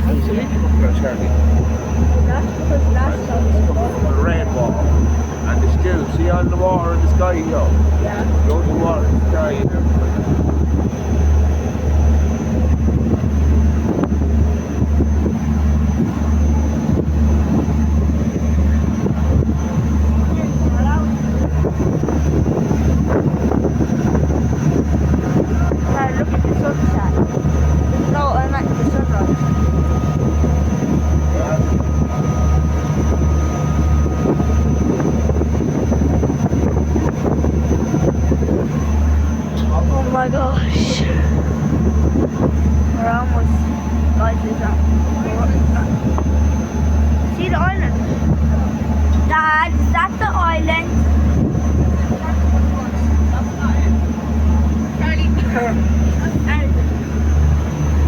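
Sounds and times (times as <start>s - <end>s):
boat engine throbbing hum: 0.0s - 58.0s
wind buffeting microphone: 0.0s - 58.0s.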